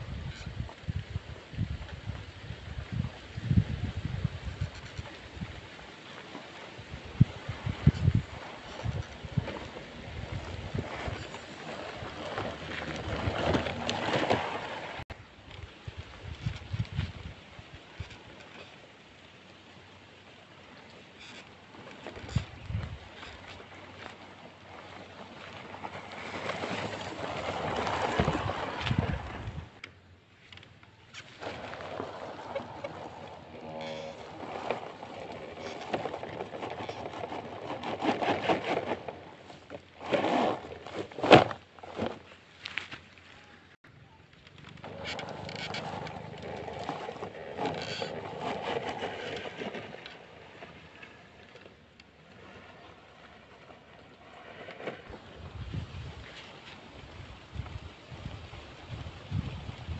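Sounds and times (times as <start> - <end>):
toy truck rustling through grass: 2.7 - 18.9, 21.0 - 59.9.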